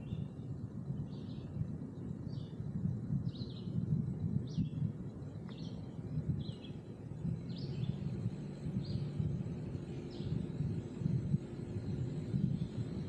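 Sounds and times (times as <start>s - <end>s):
bird chirping: 0.0s - 11.0s
low rumble: 0.0s - 13.0s.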